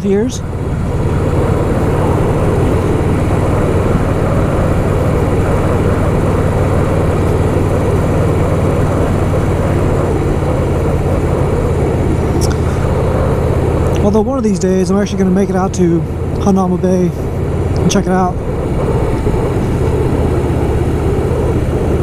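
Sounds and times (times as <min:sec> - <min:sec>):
motorcycle engine cruising: 0:00.0 - 0:22.0
wind rushing noise: 0:00.0 - 0:22.0.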